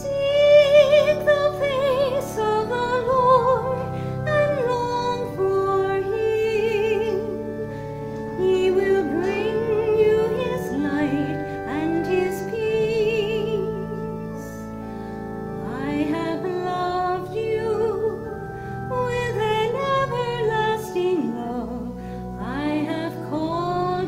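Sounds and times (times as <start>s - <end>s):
organ chords: 0.0s - 24.0s
woman singing a hymn: 0.0s - 24.0s.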